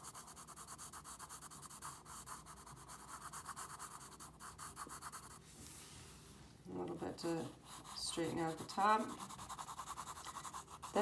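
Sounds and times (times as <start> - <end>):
pencil scratching on paper: 0.0 - 5.4, 6.7 - 11.0.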